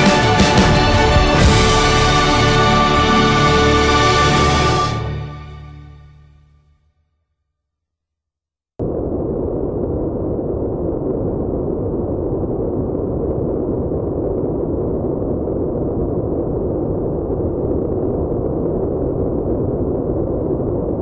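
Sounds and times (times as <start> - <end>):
dense rumbling noise: 0.0 - 5.8, 8.8 - 21.0.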